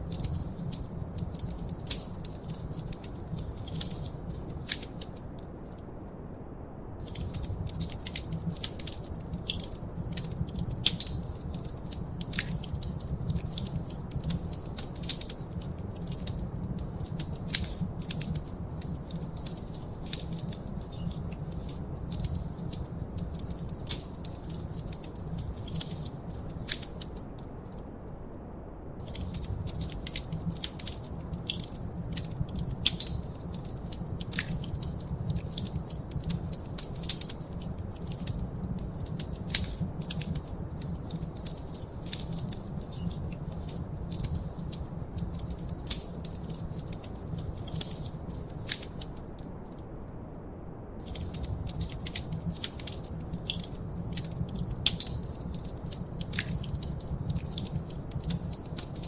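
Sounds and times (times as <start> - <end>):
wood fire crackling and popping: 0.0 - 5.8, 7.0 - 27.8, 29.0 - 49.8, 51.0 - 59.0
low rumble of flames: 0.0 - 59.0.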